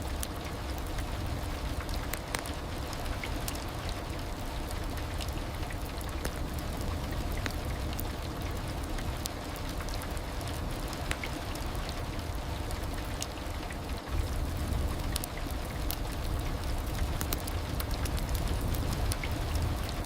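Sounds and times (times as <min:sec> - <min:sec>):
heavy rain falling: 0:00.0 - 0:20.0
raindrop ticks: 0:00.0 - 0:20.0.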